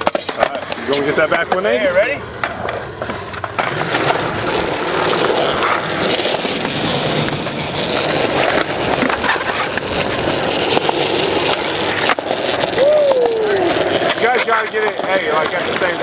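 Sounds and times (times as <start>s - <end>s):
skateboard wheels rolling on concrete: 0.0s - 16.0s.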